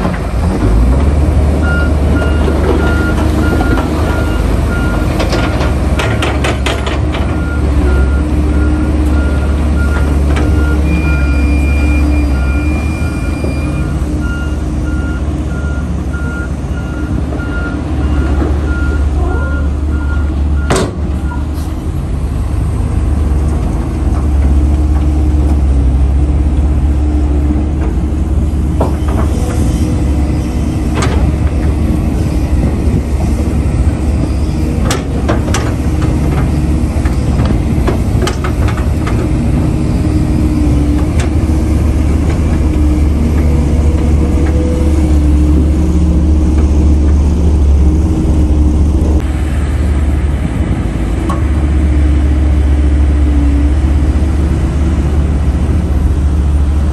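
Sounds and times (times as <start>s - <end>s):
excavator diesel engine humming: 0.0s - 56.9s.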